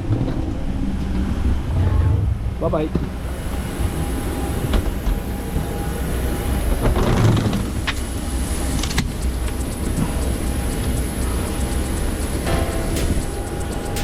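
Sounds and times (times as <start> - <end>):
airliner rumble: 0.0 - 12.4.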